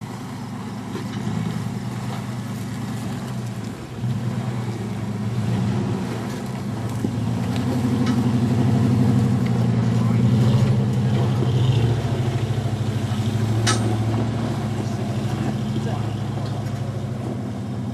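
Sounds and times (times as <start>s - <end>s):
pickup engine running: 0.0s - 17.9s.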